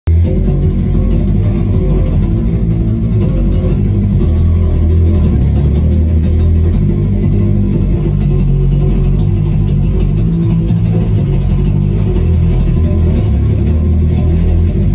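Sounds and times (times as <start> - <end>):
electric bass riff: 0.1 - 14.9.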